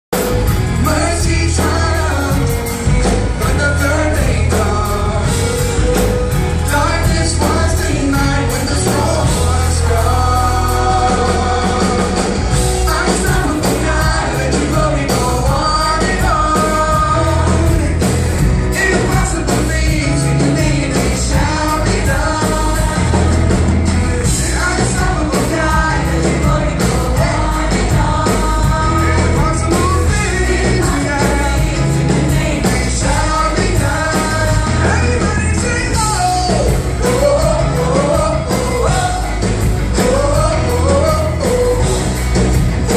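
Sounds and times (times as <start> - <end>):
band with drums playing: 0.1 - 42.9
people singing: 0.2 - 42.9.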